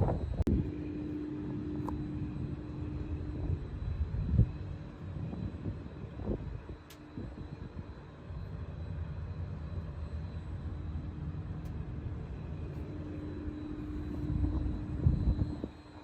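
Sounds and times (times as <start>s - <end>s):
milling machine drone: 0.0s - 16.0s.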